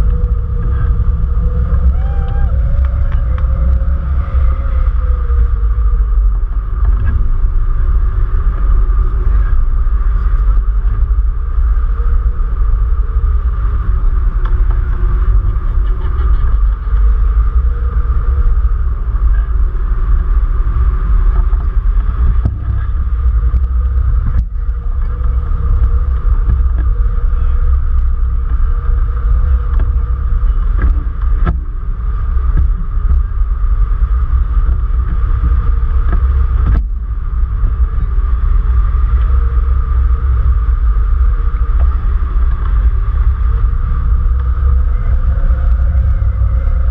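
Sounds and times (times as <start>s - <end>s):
wind buffeting low rumble: 0.0s - 46.9s.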